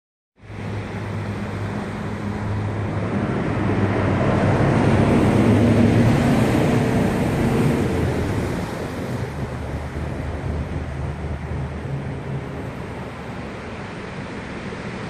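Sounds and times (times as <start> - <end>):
sea waves breaking: 0.5 - 15.0
wind buffeting microphone: 0.5 - 15.0.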